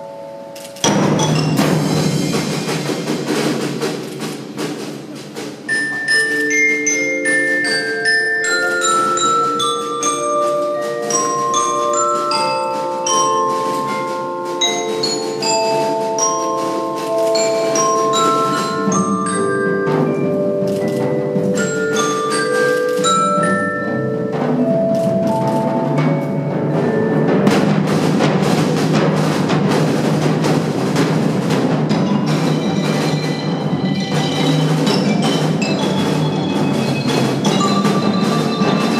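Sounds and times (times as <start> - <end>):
marimba and glockenspiel melody: 0.0 - 4.7, 5.4 - 38.9
drums and percussion: 0.0 - 38.9.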